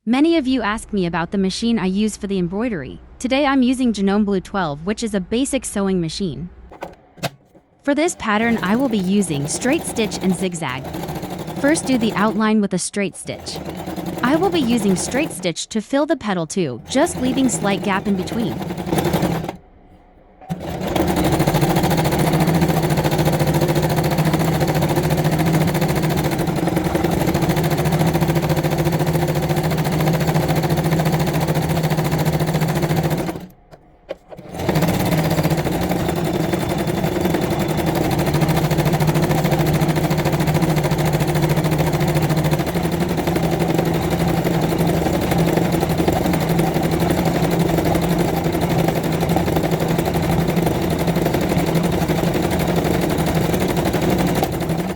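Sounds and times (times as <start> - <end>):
sewing machine running: 6.7 - 12.5, 13.1 - 15.6, 16.7 - 19.6, 20.4 - 54.9.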